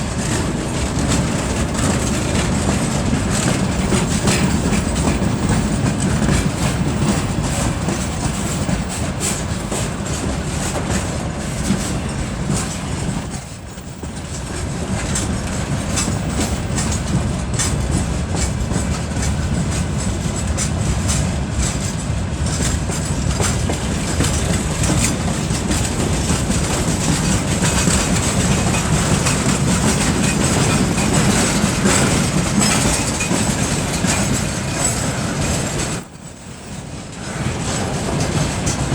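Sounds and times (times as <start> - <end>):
diesel locomotive rumble: 0.0 - 38.9
train wheels clattering over rail joints: 0.0 - 38.9.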